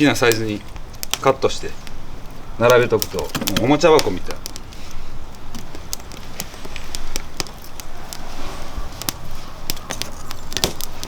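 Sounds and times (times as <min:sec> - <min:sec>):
firewood crackling and popping: 0:00.0 - 0:11.0
low rumble of fire: 0:00.0 - 0:11.0.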